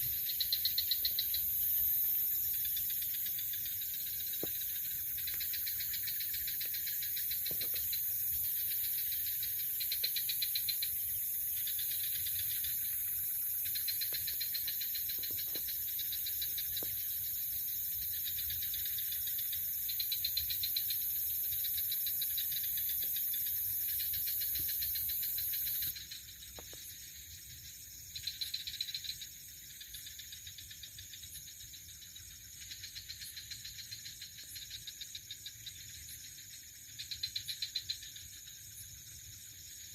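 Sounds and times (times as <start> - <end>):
crickets trilling: 0.0 - 39.9
high insect whine: 0.0 - 39.9.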